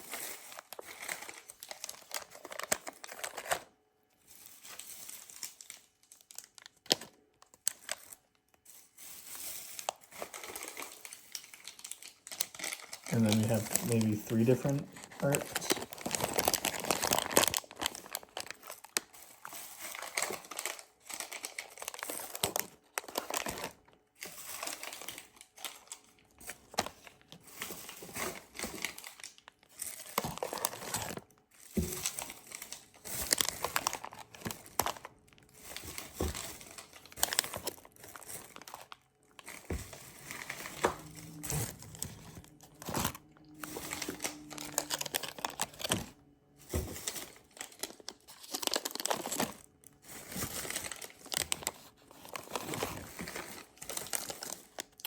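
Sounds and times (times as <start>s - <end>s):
plastic foil packs crinkling: 0.0s - 55.0s.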